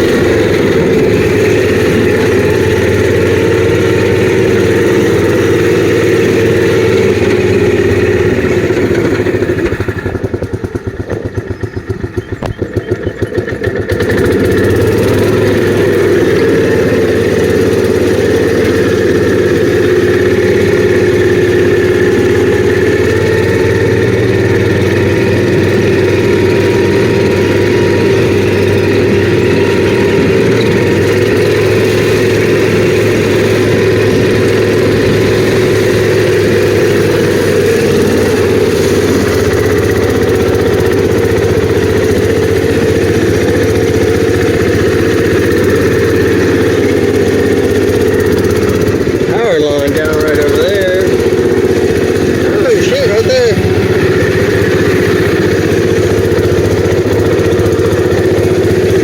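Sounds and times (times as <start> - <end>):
gasoline engine running: 0.0 - 59.0.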